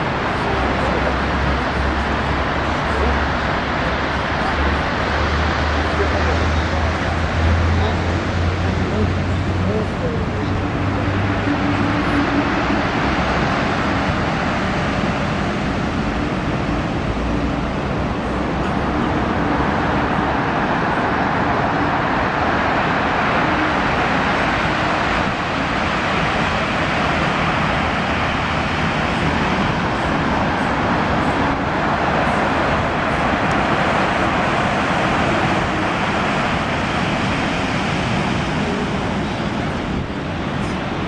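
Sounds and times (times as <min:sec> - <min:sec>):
low traffic rumble: 0:00.0 - 0:41.0
passing cars rushing: 0:00.0 - 0:41.0.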